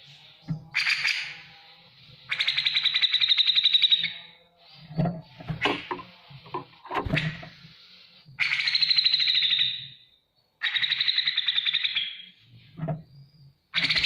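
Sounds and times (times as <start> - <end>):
bird song with rasping phrases: 0.0 - 14.0.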